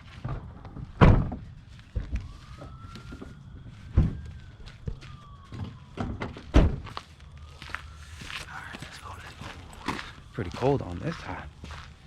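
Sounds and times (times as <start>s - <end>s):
faint siren wailing: 0.0s - 12.0s.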